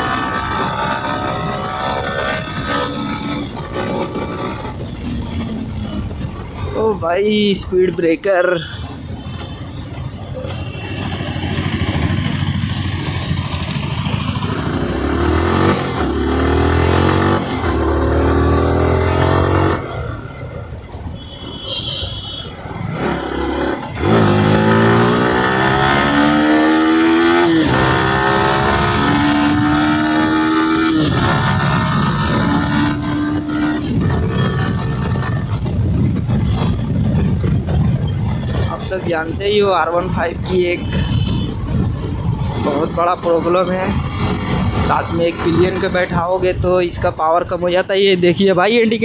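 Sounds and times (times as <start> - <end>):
motorcycle engine accelerating: 0.0 - 6.5, 9.2 - 20.4, 22.6 - 39.1, 40.8 - 46.0
wind and tyre noise: 0.0 - 49.0.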